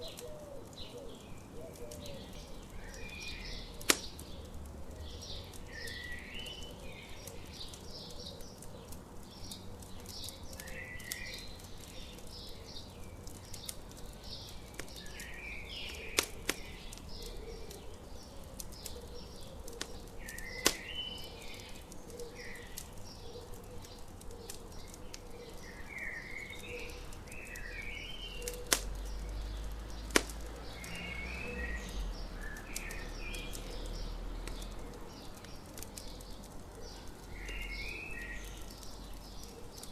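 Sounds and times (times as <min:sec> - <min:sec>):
birds chirping and singing: 0:00.0 - 0:39.9
campfire crackling: 0:00.0 - 0:39.9
fire pops: 0:00.0 - 0:39.9.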